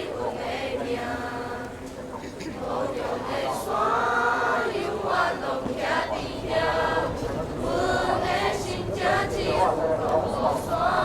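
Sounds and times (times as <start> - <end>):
choir singing: 0.0 - 1.8, 2.6 - 11.0.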